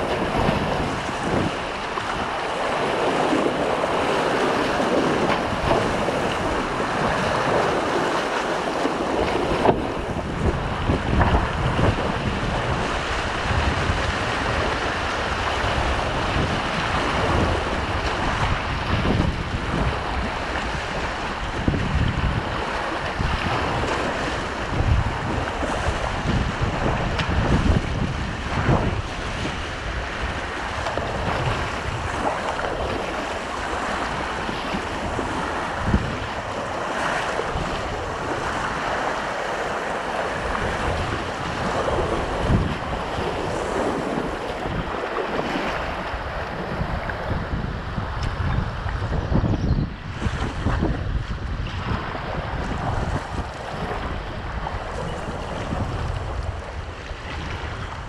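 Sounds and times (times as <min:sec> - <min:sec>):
river rapids rushing: 0:00.0 - 0:48.2
wind buffeting microphone: 0:00.0 - 0:58.0.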